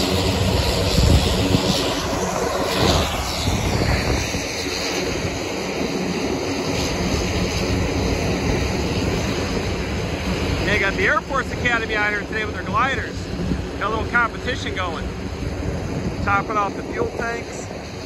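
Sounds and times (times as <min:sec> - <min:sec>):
propeller aircraft engine: 0:00.0 - 0:18.0
wind noise on microphone: 0:00.0 - 0:18.0.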